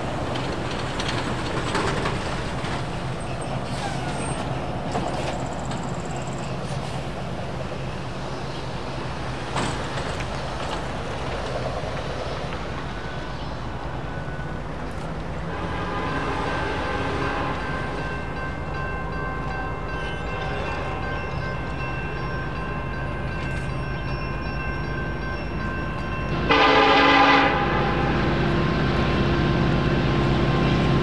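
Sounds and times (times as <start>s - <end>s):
locomotive engines humming: 0.0s - 31.0s
rail noise: 0.0s - 31.0s.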